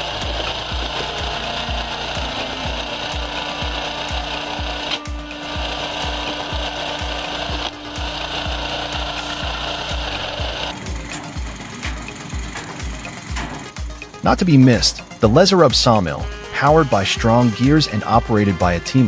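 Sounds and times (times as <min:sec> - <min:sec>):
machinery grinding wood: 0:00.0 - 0:19.0.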